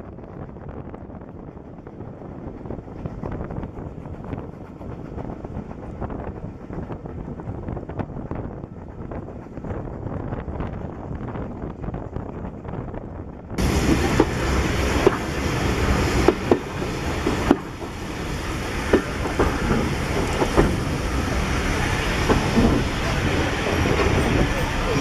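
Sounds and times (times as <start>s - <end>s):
train coaches rumbling: 0.0s - 25.0s
wheels clicking on track: 0.0s - 25.0s
wind on the microphone: 0.0s - 25.0s.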